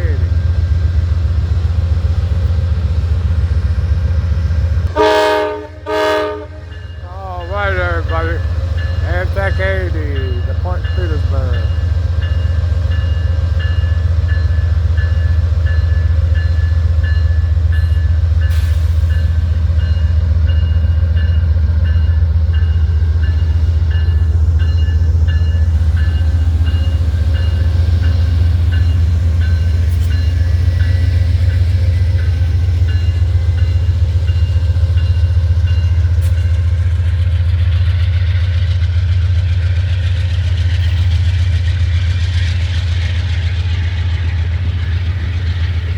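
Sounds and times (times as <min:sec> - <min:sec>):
train rumbling on rails: 0:00.0 - 0:45.9.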